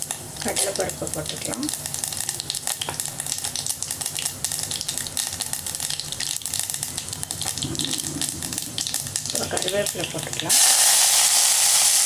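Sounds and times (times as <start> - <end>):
seeds sizzling and crackling in oil: 0.0 - 12.0.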